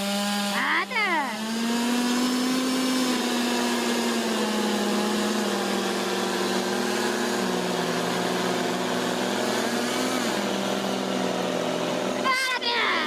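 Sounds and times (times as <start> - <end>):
chainsaw engine at high revs: 0.0 - 13.0.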